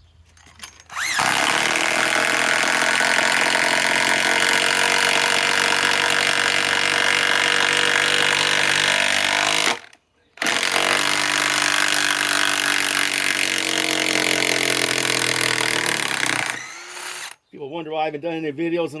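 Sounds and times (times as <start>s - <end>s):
impact wrench whining and hammering: 0.3s - 17.4s.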